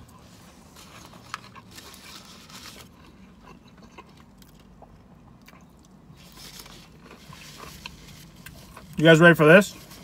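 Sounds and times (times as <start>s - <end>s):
person chewing crispy food: 0.0s - 10.0s.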